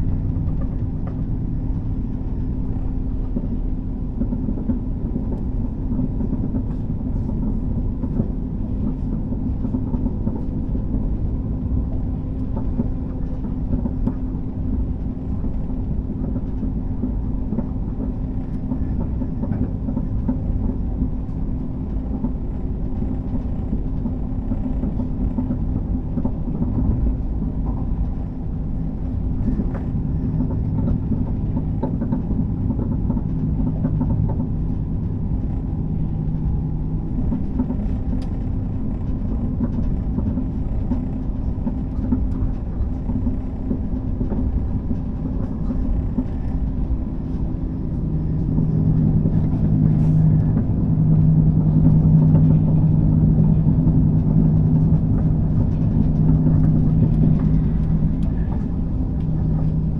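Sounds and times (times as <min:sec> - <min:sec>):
constant low hum: 0:00.0 - 0:59.9
train wheels rumbling on rail: 0:00.0 - 0:59.9.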